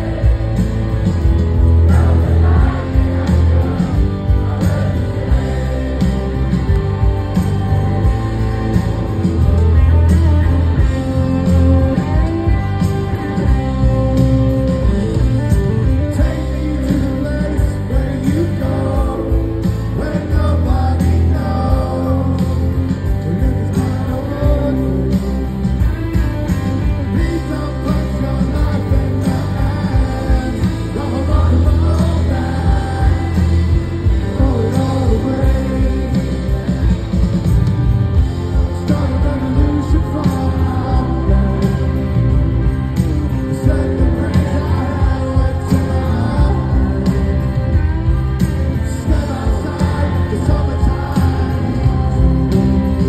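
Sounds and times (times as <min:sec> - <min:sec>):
lead singer singing: 0:00.0 - 0:37.4, 0:38.1 - 0:53.0
live rock band playing: 0:00.0 - 0:53.0.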